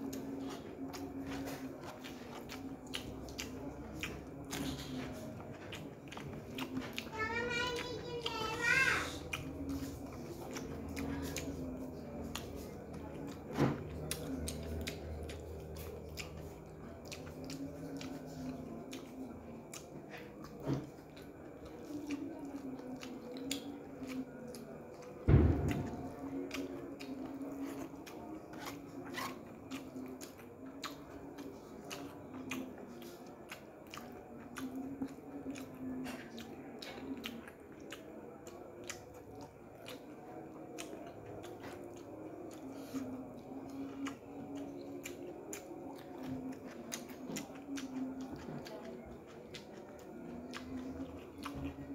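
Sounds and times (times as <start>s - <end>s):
person chewing with wet clicks: 0.0s - 51.9s.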